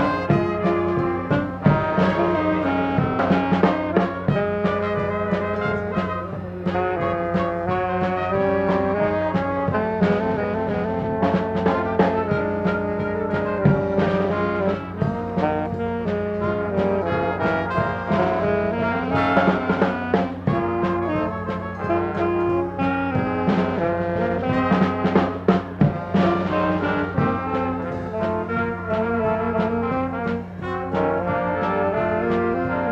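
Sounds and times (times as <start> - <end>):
brass band music: 0.0 - 32.9
drum strikes: 0.0 - 32.9.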